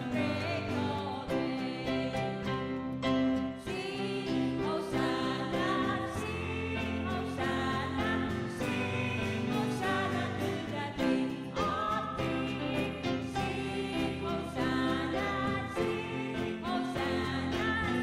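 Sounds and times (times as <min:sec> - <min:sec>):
voices singing together: 0:00.0 - 0:02.8, 0:03.5 - 0:18.0
acoustic guitar: 0:00.0 - 0:18.0
congas: 0:00.0 - 0:18.0
keyboard: 0:00.0 - 0:18.0.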